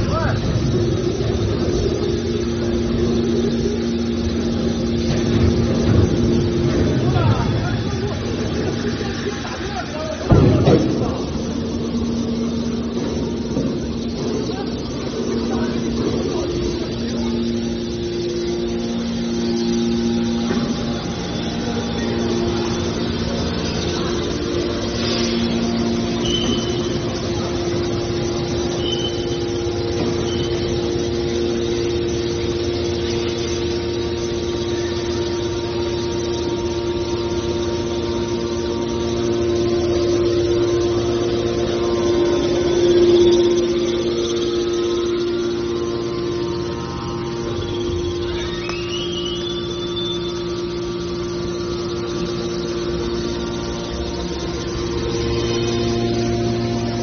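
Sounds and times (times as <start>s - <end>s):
baler machine humming: 0.0s - 57.0s.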